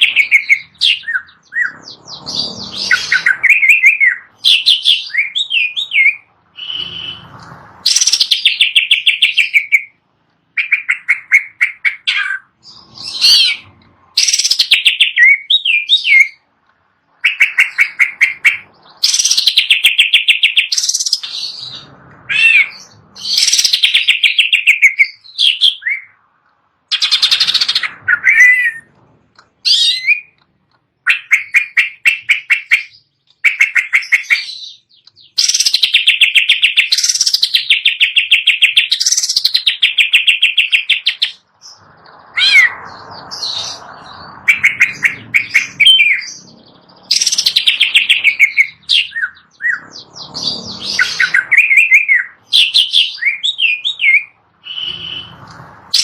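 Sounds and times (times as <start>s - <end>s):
bird trilling and whistling: 0.0s - 16.4s, 17.2s - 26.2s, 26.9s - 30.4s, 31.0s - 56.0s.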